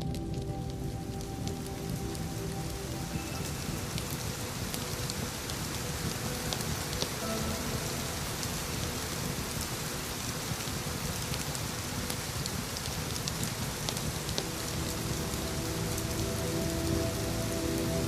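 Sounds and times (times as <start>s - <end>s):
ambient music pad: 0.0s - 18.0s
soft rain pattering: 0.0s - 18.0s.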